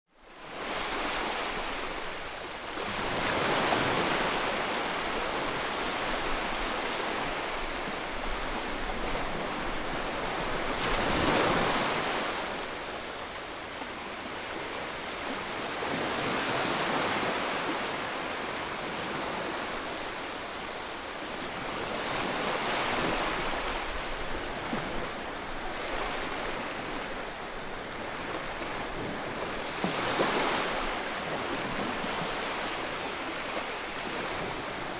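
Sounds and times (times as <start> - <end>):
rushing floodwater: 0.3 - 34.9.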